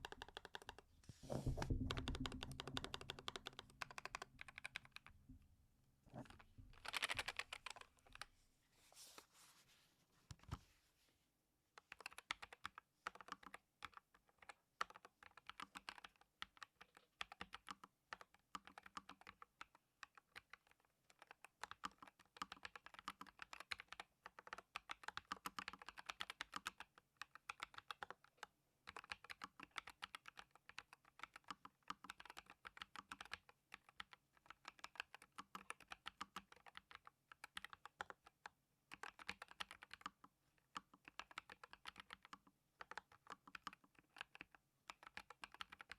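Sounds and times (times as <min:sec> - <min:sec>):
mechanical keyboard typing: 0:00.0 - 0:05.1, 0:06.2 - 0:08.3, 0:11.8 - 0:45.9.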